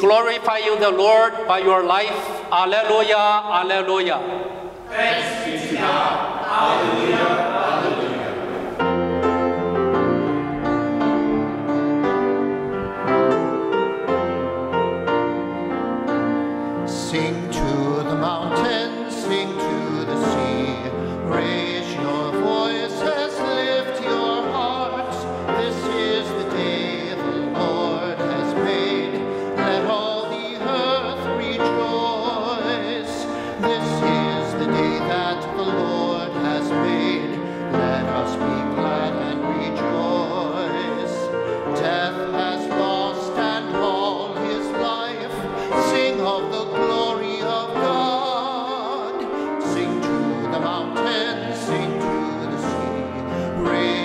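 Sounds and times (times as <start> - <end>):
person singing hymn with vibrato: 0.0 - 10.4, 16.6 - 54.0
keyboard accompaniment: 0.0 - 54.0.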